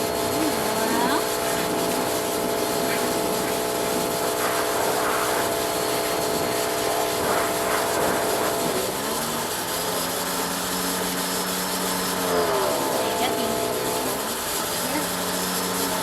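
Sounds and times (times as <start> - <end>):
pressure washer engine running: 0.0 - 16.0
water spray hissing: 0.0 - 16.0.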